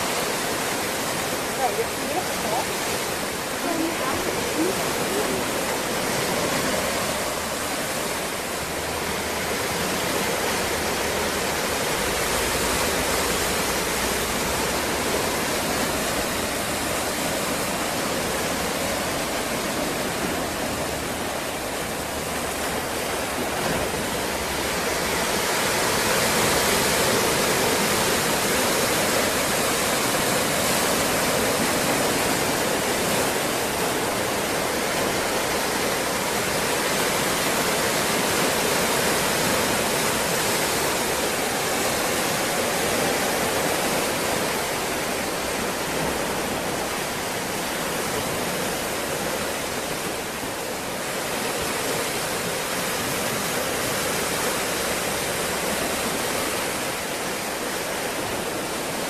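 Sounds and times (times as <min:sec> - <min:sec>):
ocean waves: 0:00.0 - 0:59.0.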